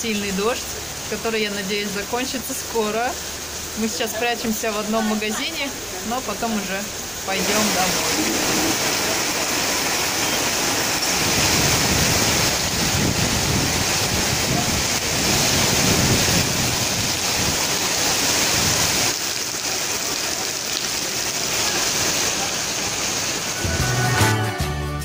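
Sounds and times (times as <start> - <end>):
heavy rain on pavement: 0.0 - 24.6.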